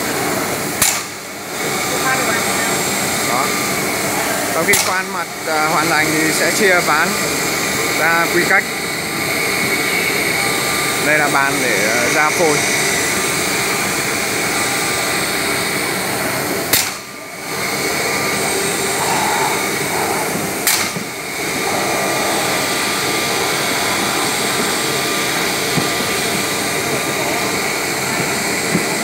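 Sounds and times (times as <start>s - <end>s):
cnc router roaring: 0.0s - 29.0s.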